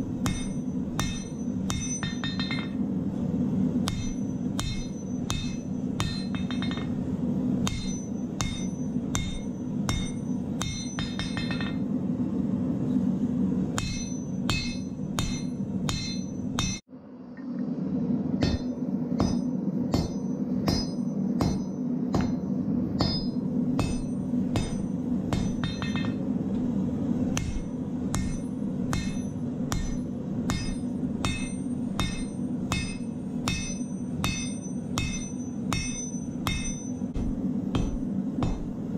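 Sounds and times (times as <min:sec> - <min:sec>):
hammer striking metal on anvil: 0:00.0 - 0:02.9, 0:03.8 - 0:11.9, 0:13.8 - 0:16.9, 0:18.4 - 0:26.3, 0:27.3 - 0:38.9.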